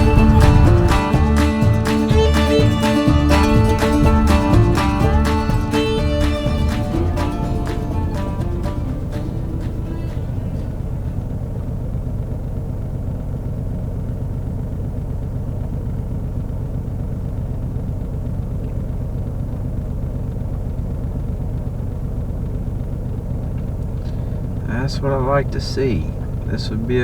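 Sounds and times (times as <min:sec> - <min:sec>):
road noise: 0:00.0 - 0:27.0
vehicle engine rumble: 0:00.0 - 0:27.0.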